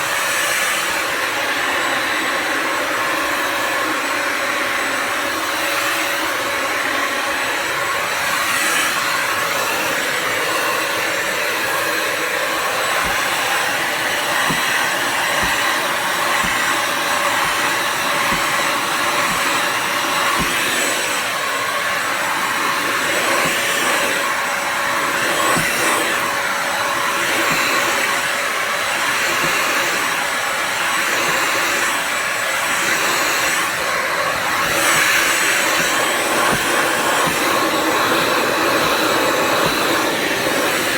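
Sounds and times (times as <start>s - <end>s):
vacuum motor running: 0.0s - 40.9s.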